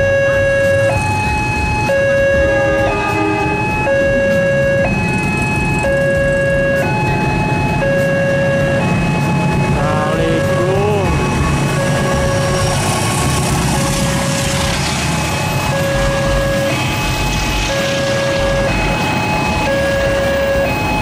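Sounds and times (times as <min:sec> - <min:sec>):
short rising and falling tone: 0:00.0 - 0:21.0
two-tone crossing alarm: 0:00.0 - 0:21.0.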